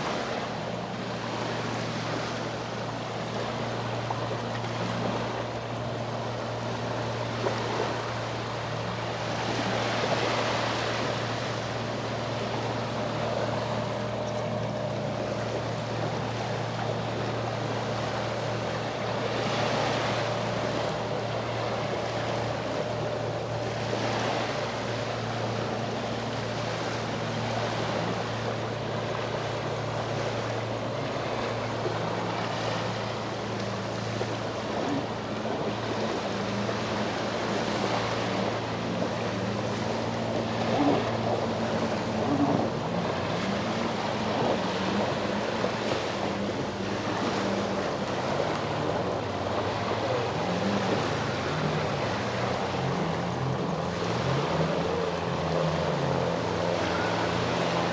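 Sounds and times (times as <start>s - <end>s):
boat engine humming: 0.0s - 57.9s
sea waves washing ashore: 0.0s - 57.9s.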